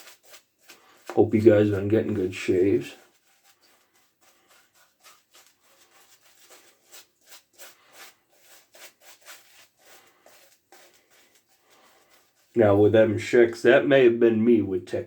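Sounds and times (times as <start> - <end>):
shaving brush rubbing soap: 0.0 - 14.1.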